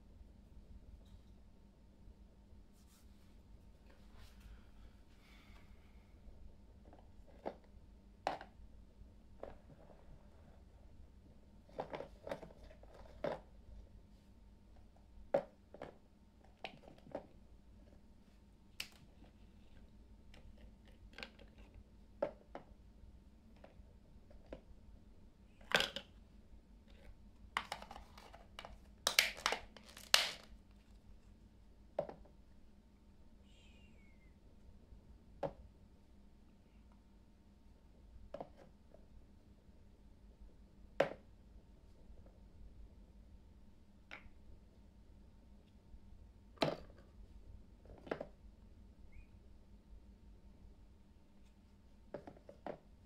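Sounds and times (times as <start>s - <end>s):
faint low hum: 0.0s - 53.0s.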